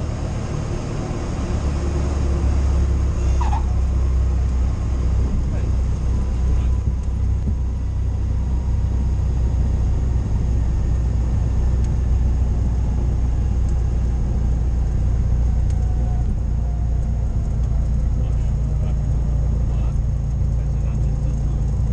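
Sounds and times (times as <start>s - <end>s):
propeller plane engine drone: 0.0s - 21.9s.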